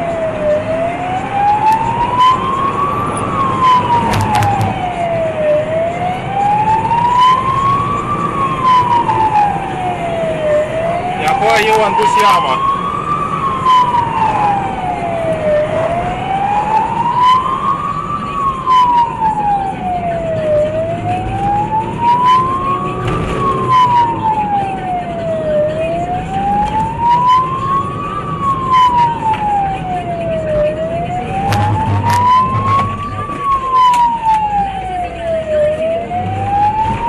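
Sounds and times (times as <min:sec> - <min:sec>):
police siren wailing: 0:00.0 - 0:37.0
road and engine rumble: 0:00.0 - 0:37.0.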